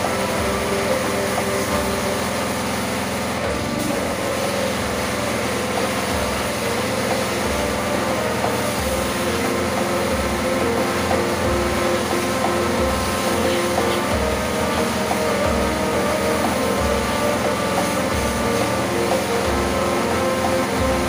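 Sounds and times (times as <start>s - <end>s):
pressure washer droning: 0.0s - 21.0s
water jet hissing: 0.0s - 21.0s.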